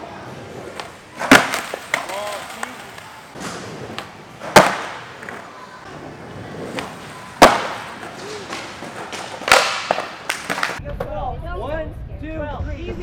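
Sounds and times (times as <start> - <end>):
skateboard slaps echoing: 0.0 - 10.8
skateboards rolling on concrete: 0.0 - 10.8.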